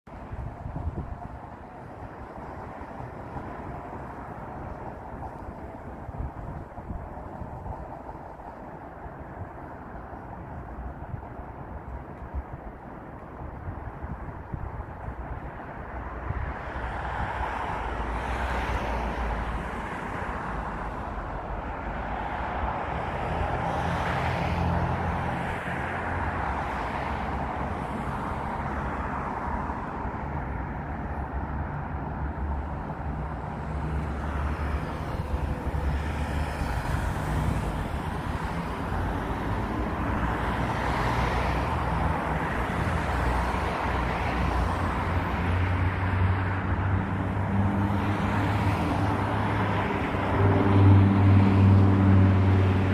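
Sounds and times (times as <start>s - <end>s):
traffic hum: 0.0s - 52.9s.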